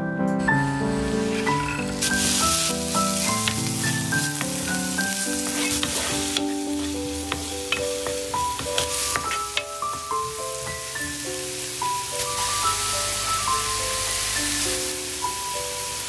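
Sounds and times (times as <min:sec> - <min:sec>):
gentle background music: 0:00.0 - 0:16.0
food sizzling in oil: 0:00.8 - 0:16.0.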